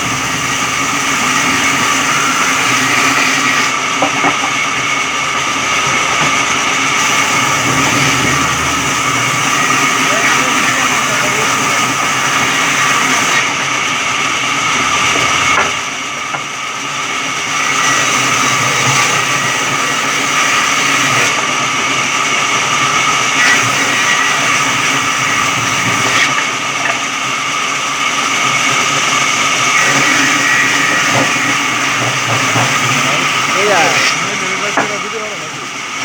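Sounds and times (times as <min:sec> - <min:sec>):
electric sawmill whining: 0:00.0 - 0:36.0.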